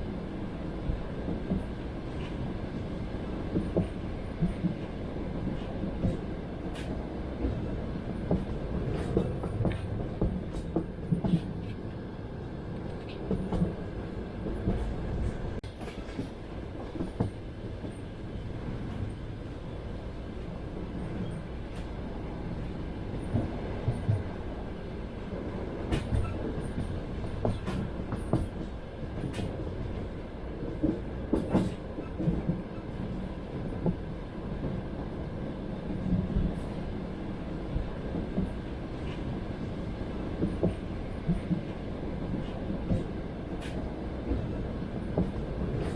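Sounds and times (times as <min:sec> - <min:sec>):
train car rumble: 0:00.0 - 0:45.9.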